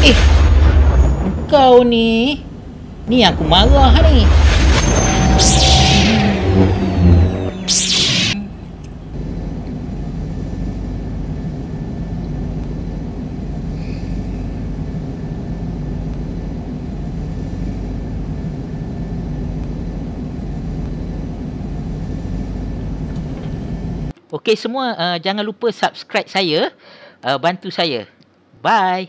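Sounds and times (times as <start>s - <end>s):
low engine rumble: 0.6s - 24.1s.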